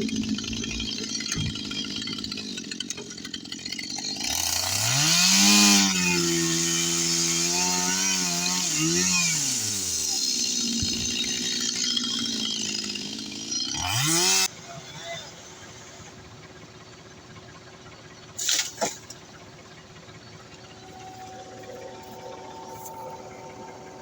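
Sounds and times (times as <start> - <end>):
chainsaw revving: 0.0 - 16.6, 20.4 - 24.0.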